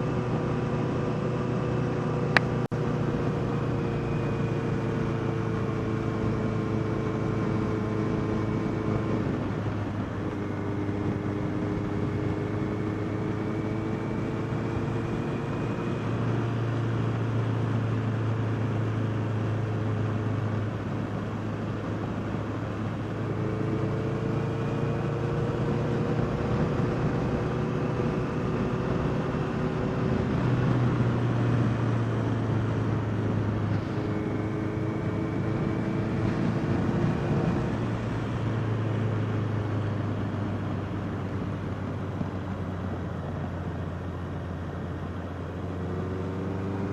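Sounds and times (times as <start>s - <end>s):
wind and road noise: 0.0s - 46.9s.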